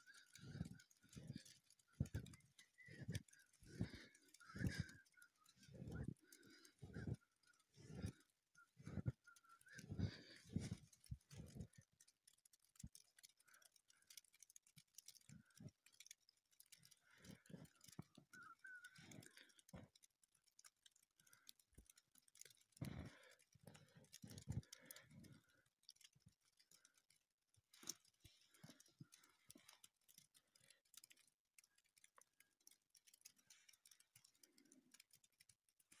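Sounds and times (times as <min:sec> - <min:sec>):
faint clicks: 0:00.0 - 0:36.0.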